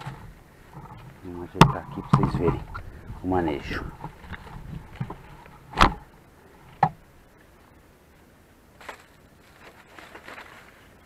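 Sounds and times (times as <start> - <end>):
faint rustle: 0.0 - 11.0.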